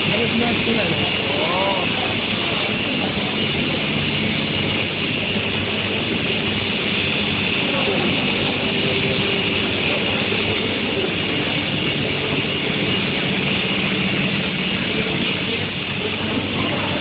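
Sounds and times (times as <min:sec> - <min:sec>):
industrial machinery running: 0:00.0 - 0:17.0.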